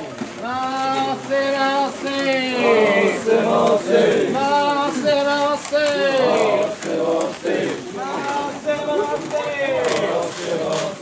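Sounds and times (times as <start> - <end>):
men chanting together: 0.8 - 11.0.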